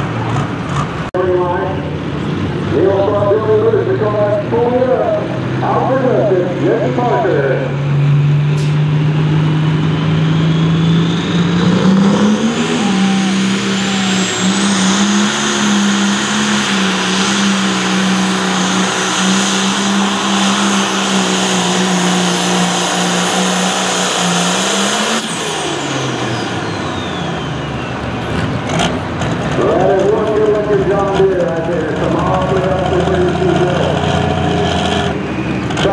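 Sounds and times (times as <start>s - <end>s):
diesel tractor engine at full throttle: 0.0s - 35.9s
high turbo whine: 0.0s - 35.9s.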